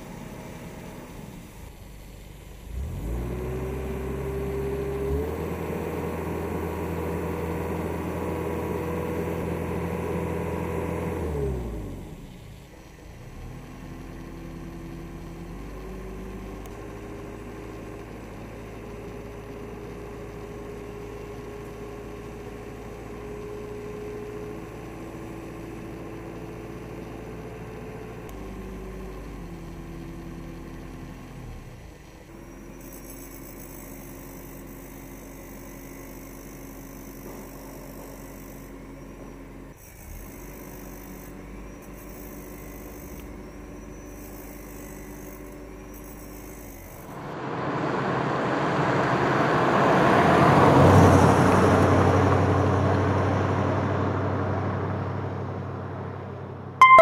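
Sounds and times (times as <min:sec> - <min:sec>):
truck engine running: 0:00.0 - 0:41.8, 0:42.5 - 0:57.0.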